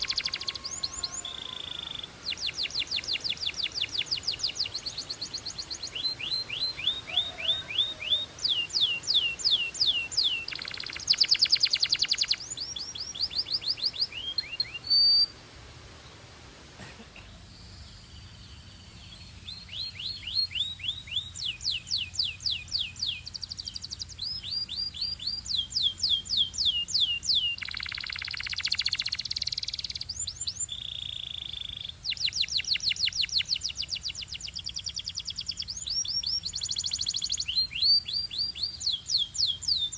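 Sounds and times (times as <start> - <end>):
canary singing trills: 0.0 - 15.3, 17.6 - 39.9.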